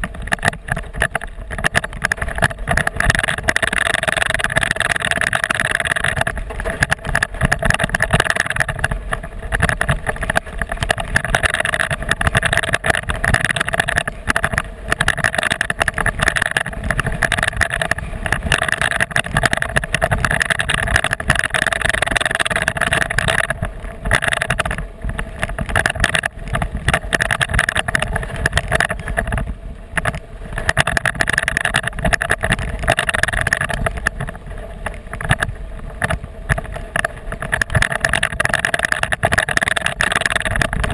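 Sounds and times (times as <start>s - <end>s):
gravel crackling: 0.0s - 40.9s.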